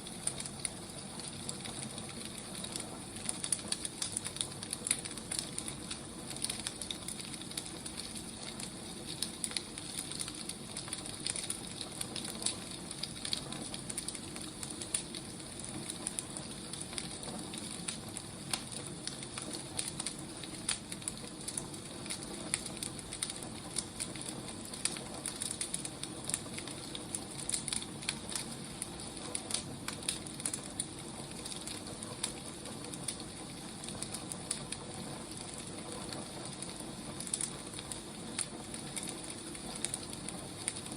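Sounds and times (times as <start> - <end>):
firewood crackling and popping: 0.0 - 40.9.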